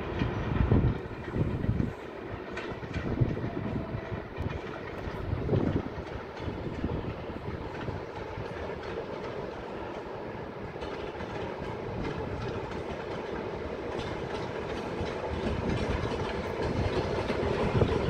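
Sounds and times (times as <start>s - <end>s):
clatter over rail joints: 0.0s - 18.0s
train wheels rolling on rails: 0.0s - 18.0s.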